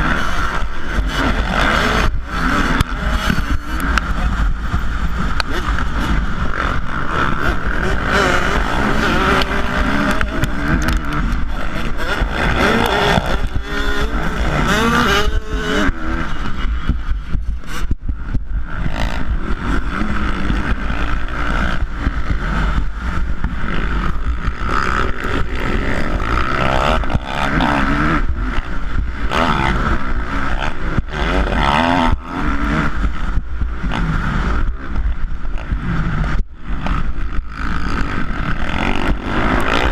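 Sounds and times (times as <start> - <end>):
motorcycle engines revving: 0.0 - 39.9
wind rumble on microphone: 0.0 - 39.9.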